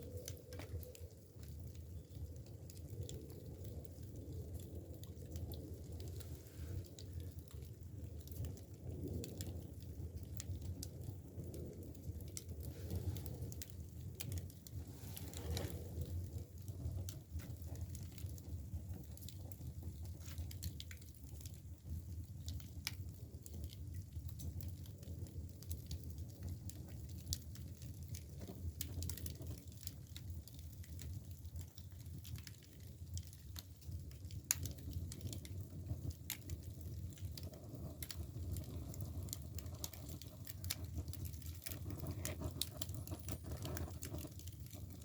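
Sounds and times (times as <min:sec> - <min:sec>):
firewood crackling and popping: 0:00.0 - 0:45.0
low rumble of fire: 0:00.0 - 0:45.0.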